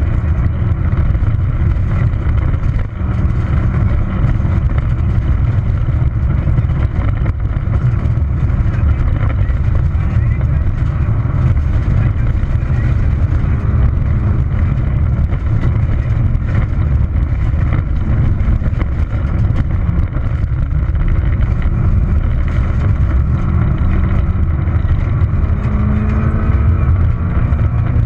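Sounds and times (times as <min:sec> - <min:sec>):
car engine at speed: 0:00.0 - 0:28.0
tyres rumbling on gravel: 0:00.0 - 0:28.0.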